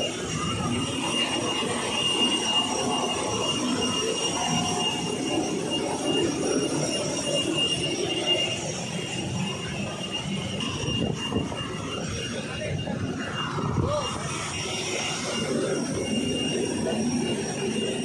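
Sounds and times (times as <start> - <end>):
jet aircraft whine and rumble: 0.0 - 18.0.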